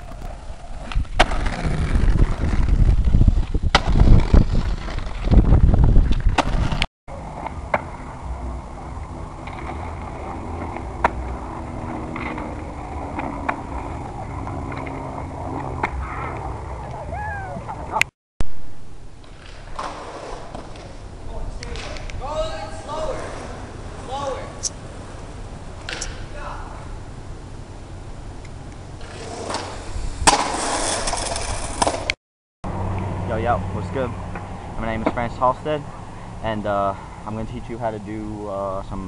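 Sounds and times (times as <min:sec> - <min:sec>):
skateboard wheels rolling on pavement: 0:00.0 - 0:18.0, 0:18.7 - 0:39.0.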